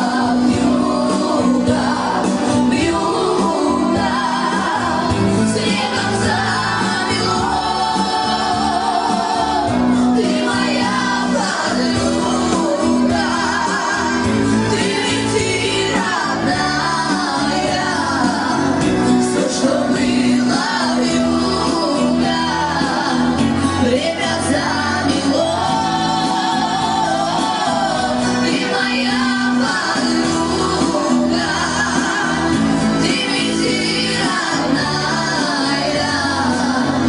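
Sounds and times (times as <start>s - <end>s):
person singing: 0.0s - 37.0s.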